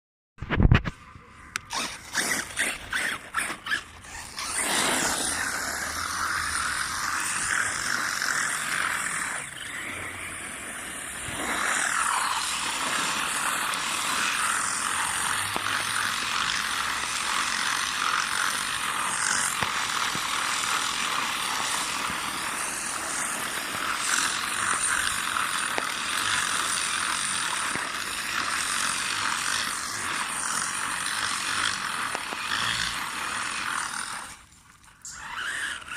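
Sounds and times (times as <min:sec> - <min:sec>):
electric motor whine: 0:01.4 - 0:34.5, 0:35.1 - 0:35.9
tyres scrubbing while spinning: 0:01.7 - 0:35.9.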